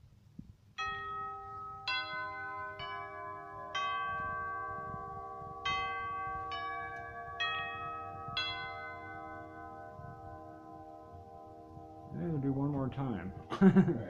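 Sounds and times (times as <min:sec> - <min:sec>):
tubular chimes melody: 0:00.8 - 0:14.0.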